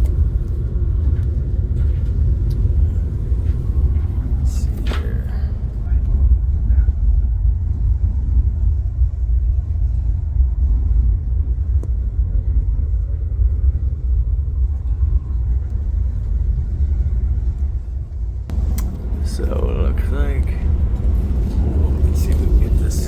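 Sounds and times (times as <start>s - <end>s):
air handling equipment rumble: 0.0s - 23.0s.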